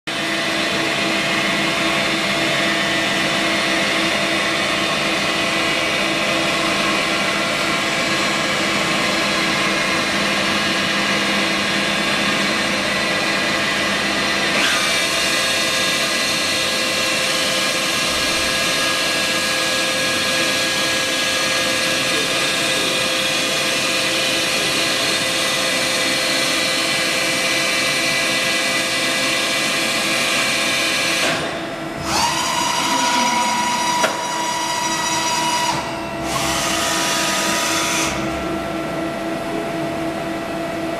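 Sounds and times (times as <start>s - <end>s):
milling machine whine: 0.1s - 40.9s.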